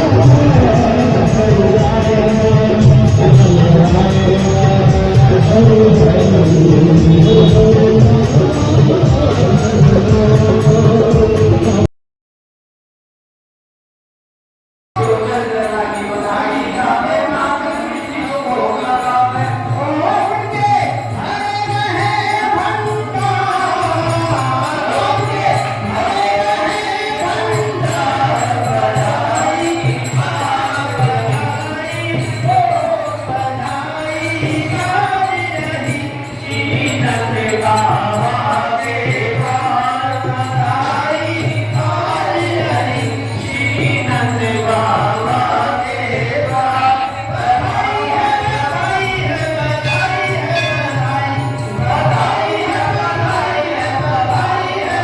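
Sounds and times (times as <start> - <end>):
high percussion beat: 0.0 - 11.9, 15.0 - 55.0
voices singing together: 0.0 - 11.9, 15.0 - 55.0.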